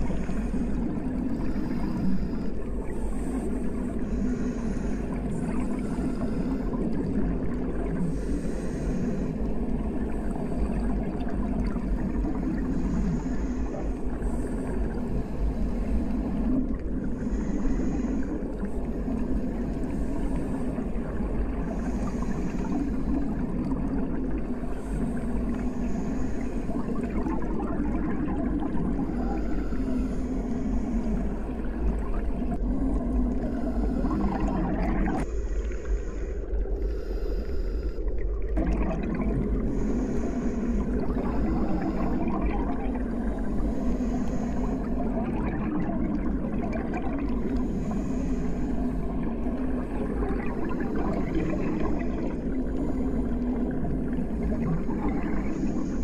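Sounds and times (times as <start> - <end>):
underwater deep rumble and gurgle: 0.0 - 56.0.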